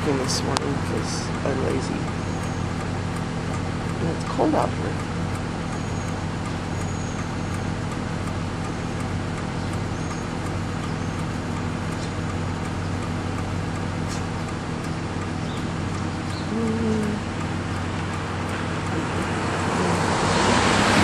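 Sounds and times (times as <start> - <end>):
car engine hum: 0.0 - 21.0
road noise rumble: 0.0 - 21.0.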